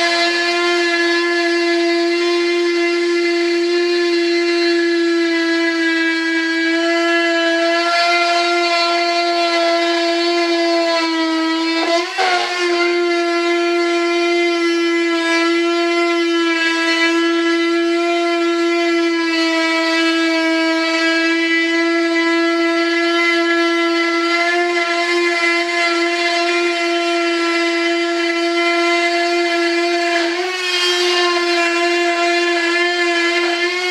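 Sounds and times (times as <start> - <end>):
rotary cutter high whine: 0.0 - 33.9.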